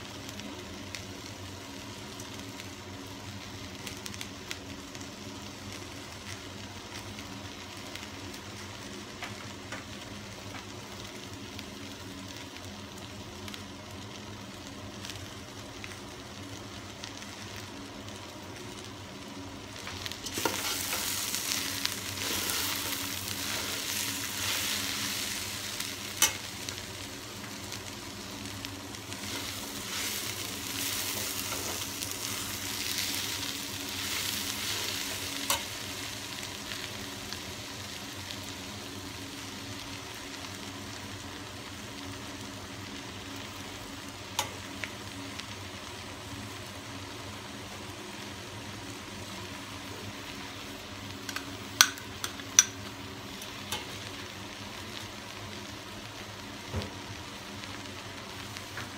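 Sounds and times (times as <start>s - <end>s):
vegetables sizzling in a pot: 0.0s - 58.9s.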